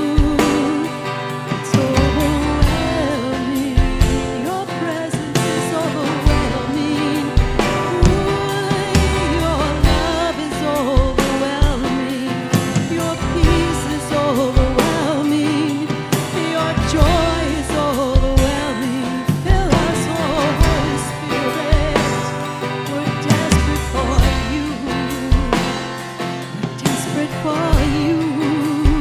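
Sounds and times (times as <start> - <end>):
band playing: 0.0 - 29.0
person singing: 0.0 - 29.0.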